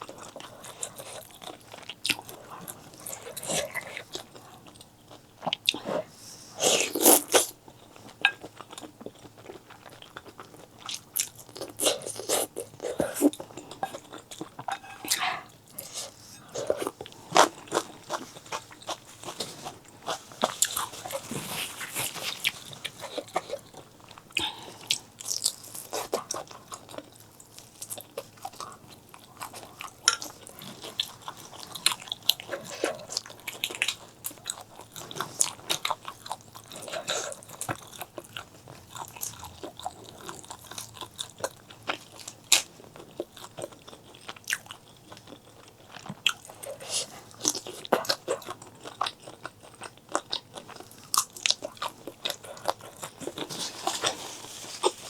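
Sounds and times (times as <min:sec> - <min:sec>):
person chewing and biting: 0:06.7 - 0:55.0.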